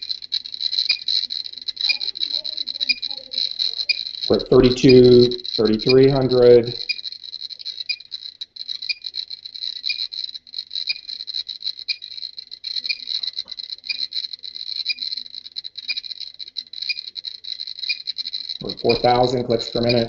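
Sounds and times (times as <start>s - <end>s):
geiger counter clicking rapidly: 0.0s - 20.0s.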